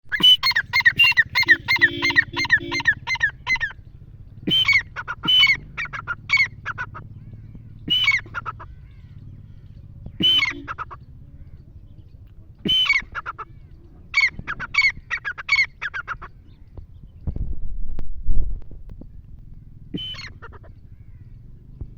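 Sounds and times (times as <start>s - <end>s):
partridge calling: 0.1s - 17.4s, 19.0s - 21.9s.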